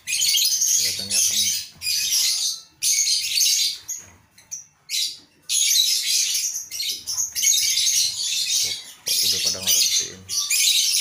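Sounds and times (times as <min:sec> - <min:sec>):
lovebirds chattering and screeching: 0:00.0 - 0:11.0.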